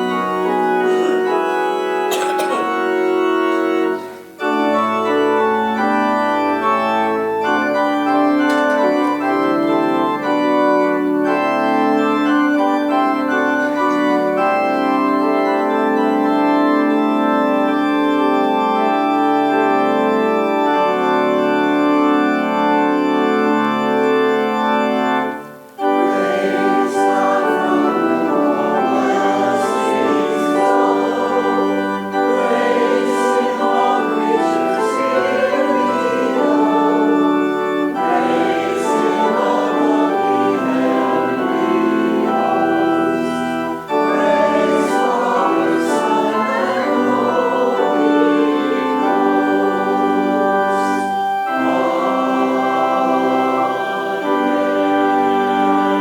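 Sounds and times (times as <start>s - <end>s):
organ playing chords: 0.0s - 56.0s.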